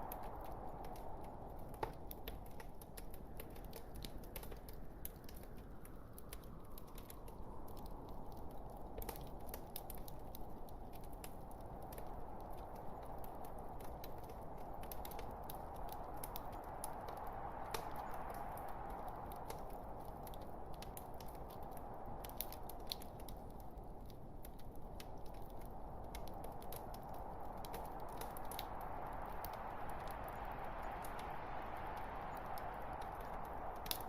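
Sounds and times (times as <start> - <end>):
log fire crackling: 0.0 - 34.0.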